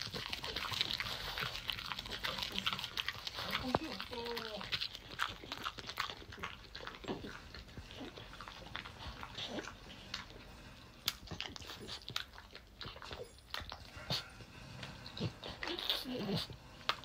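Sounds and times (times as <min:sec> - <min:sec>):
dog chewing with wet crunches: 0:00.0 - 0:17.0.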